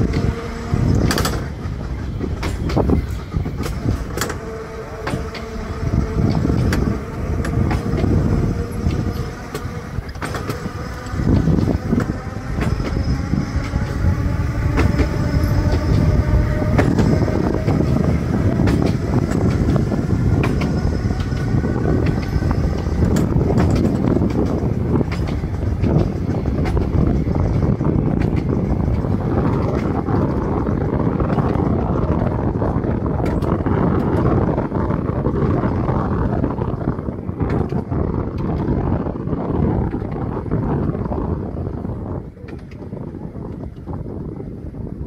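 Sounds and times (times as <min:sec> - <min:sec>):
clicks over rail joints: 0:00.0 - 0:41.5, 0:42.2 - 0:44.1
traction motor whine: 0:00.0 - 0:44.8
tram wheels rumbling on rails: 0:00.0 - 0:45.0.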